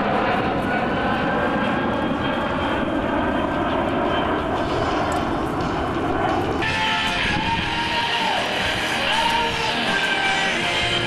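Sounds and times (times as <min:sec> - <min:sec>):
jet aircraft passing overhead: 0:00.0 - 0:11.0.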